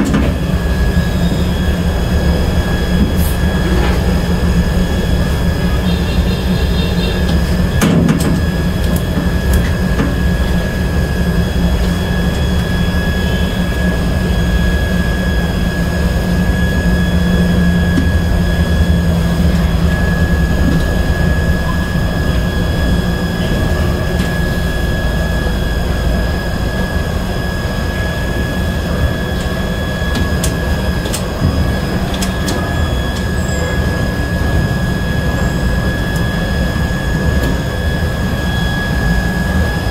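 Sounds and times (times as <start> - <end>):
high-pitched whine: 0.0 - 39.9
machinery drone: 0.0 - 39.9.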